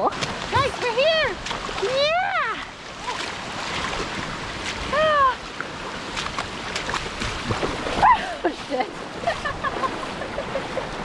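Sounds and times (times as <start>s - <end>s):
creek running over rocks: 0.0s - 11.0s.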